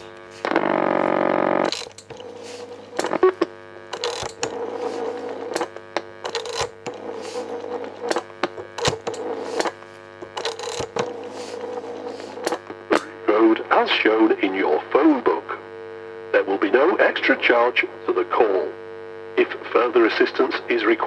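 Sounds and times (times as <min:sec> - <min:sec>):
buzzy telephone line tone: 0:00.0 - 0:21.0
steady hum: 0:00.0 - 0:21.0.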